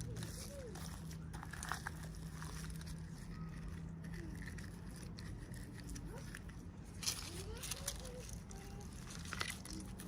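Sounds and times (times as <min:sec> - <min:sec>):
hands handling toy packaging: 0:00.0 - 0:10.0.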